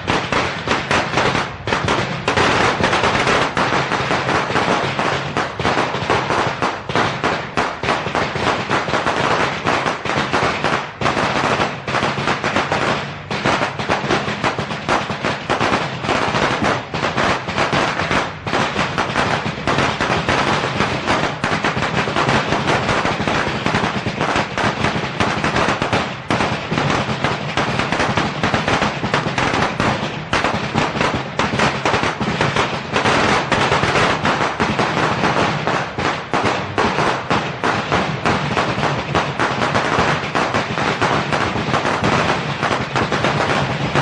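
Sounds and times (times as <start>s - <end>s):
firecrackers crackling: 0.0s - 44.0s.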